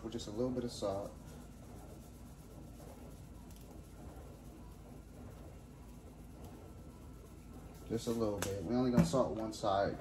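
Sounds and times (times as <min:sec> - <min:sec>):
faint steady low hum: 0:00.0 - 0:10.0.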